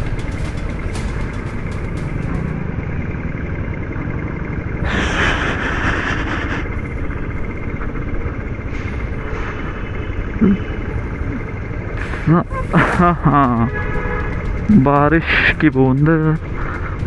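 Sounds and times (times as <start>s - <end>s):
motorcycle engine and road rumble: 0.0s - 17.0s.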